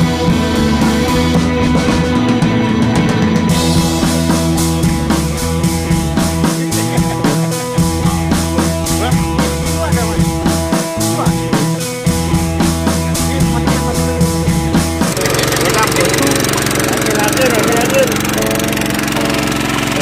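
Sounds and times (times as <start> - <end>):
rock backing track: 0.0 - 20.0.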